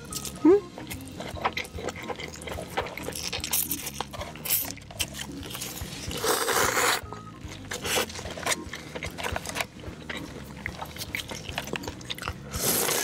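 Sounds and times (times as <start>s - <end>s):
wet chewing with smacks: 0.0s - 13.0s.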